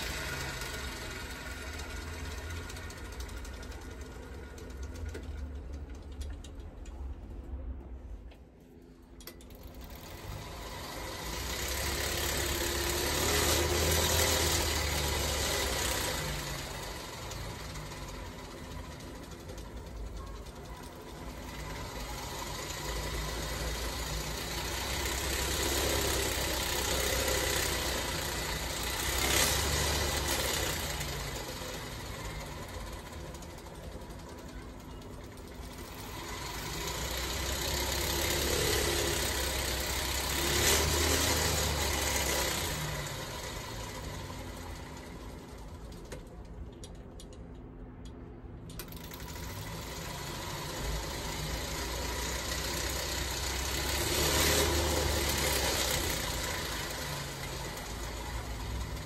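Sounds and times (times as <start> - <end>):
bicycle chain and freewheel running: 0.0 - 6.3, 9.4 - 46.4, 48.8 - 59.0.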